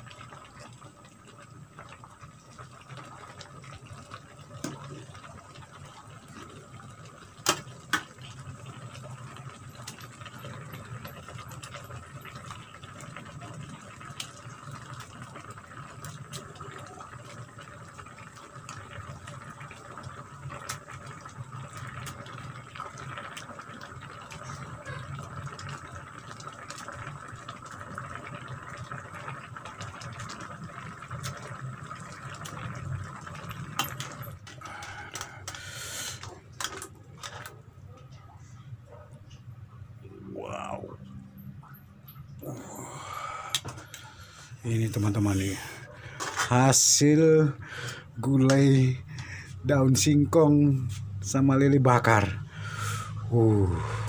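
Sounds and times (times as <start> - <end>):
food simmering in a pan: 0.0 - 37.8, 42.2 - 54.0.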